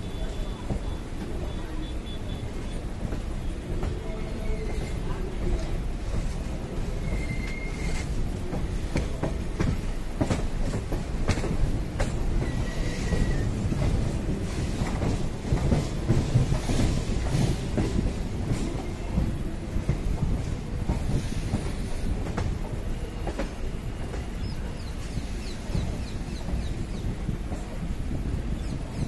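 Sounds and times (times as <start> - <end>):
train wheels rumbling and clacking: 0.0 - 29.0.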